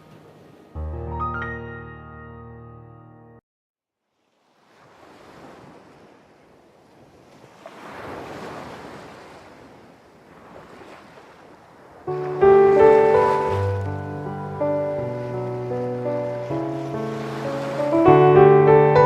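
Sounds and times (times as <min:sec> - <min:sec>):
ocean waves washing in: 0:00.0 - 0:00.9, 0:04.0 - 0:19.0.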